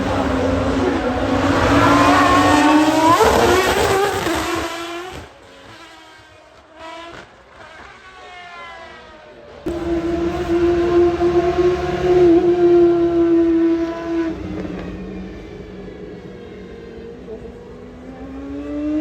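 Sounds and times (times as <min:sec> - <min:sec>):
supercar engine accelerating: 0:00.0 - 0:19.0.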